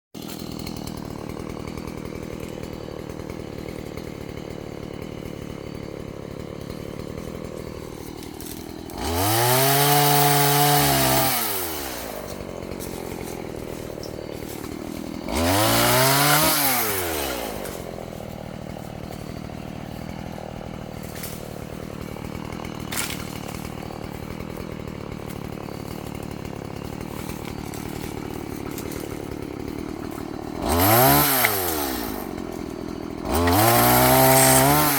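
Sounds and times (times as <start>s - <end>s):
chainsaw idling and revving: 0.2s - 34.9s.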